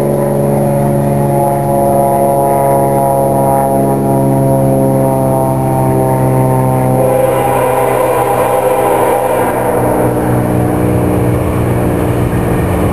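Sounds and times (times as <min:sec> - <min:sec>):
diesel locomotive engine droning: 0:00.0 - 0:12.9.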